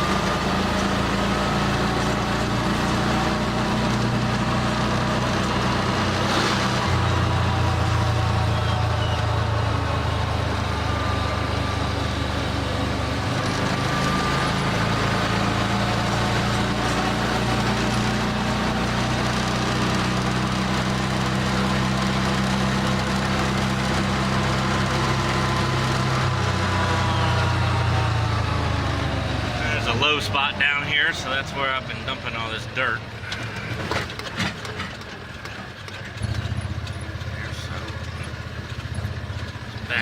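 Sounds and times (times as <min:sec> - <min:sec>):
utility vehicle engine running: 0:00.0 - 0:40.0.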